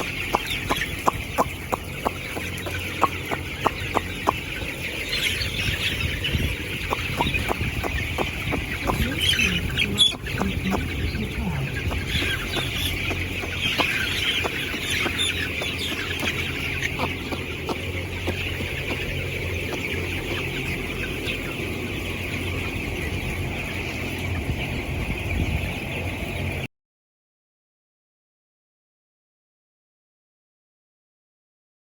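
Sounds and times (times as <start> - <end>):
chickens chirping and clucking: 0.0 - 26.7
steady low hum: 0.0 - 26.7.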